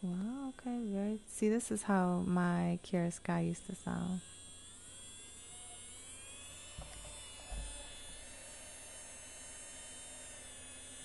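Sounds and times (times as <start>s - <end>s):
electric nail drill whining: 0.0s - 11.0s.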